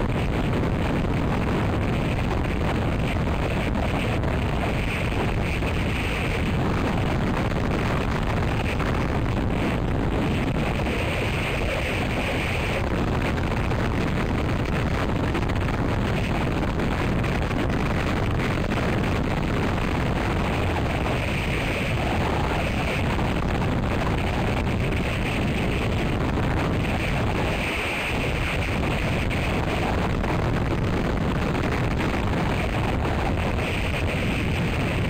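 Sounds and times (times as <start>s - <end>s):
storm wind through pine branches: 0.0s - 35.0s
wind buffeting microphone: 0.0s - 35.0s.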